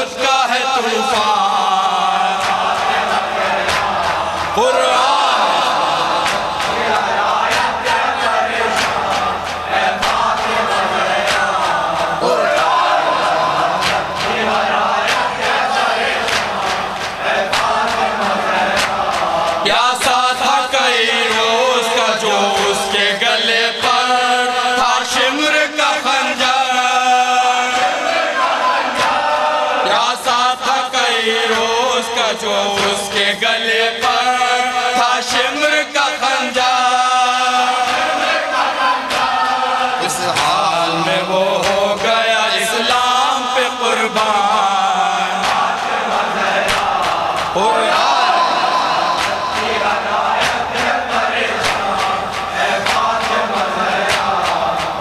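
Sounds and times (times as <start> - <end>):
men chanting in unison: 0.0 - 55.0.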